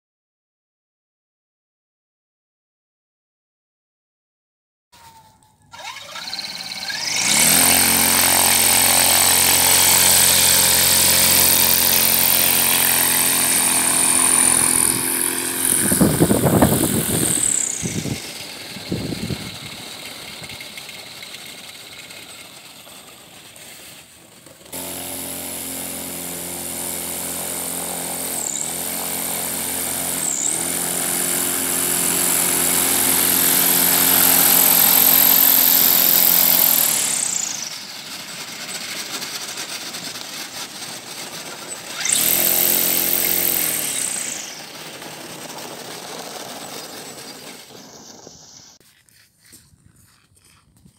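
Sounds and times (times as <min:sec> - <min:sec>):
electric propeller motor whine: 0:05.7 - 0:23.5, 0:24.6 - 0:48.8.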